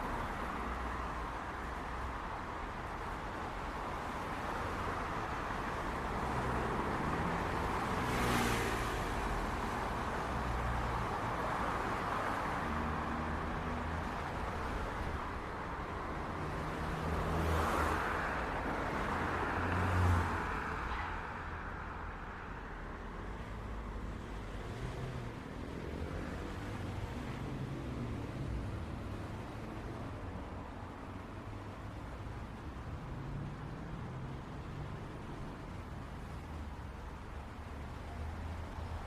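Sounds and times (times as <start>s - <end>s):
street traffic: 0.0s - 39.0s
vehicles passing close by: 0.0s - 39.0s.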